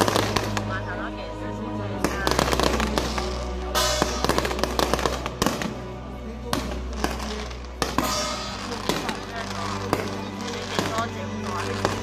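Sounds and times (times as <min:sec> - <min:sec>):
fireworks bangs and crackles: 0:00.0 - 0:00.9, 0:02.0 - 0:12.0
music playing: 0:00.0 - 0:12.0.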